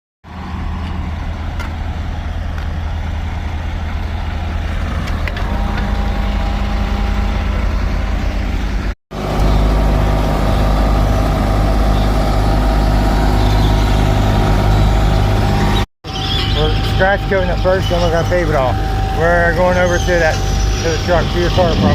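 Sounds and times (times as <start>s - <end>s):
heavy machinery engine running: 0.3s - 21.9s.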